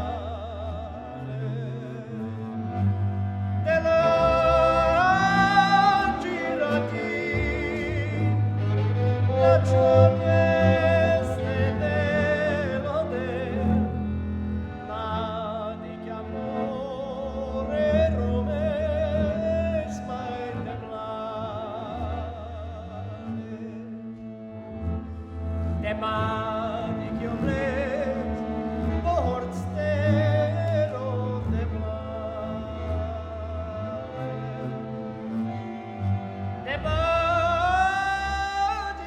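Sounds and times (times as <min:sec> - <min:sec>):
man singing with vibrato: 0:00.0 - 0:02.8, 0:03.6 - 0:14.0, 0:14.8 - 0:24.1, 0:25.8 - 0:34.7, 0:36.6 - 0:39.0
double bass: 0:00.0 - 0:39.0
viola chords: 0:00.0 - 0:39.0.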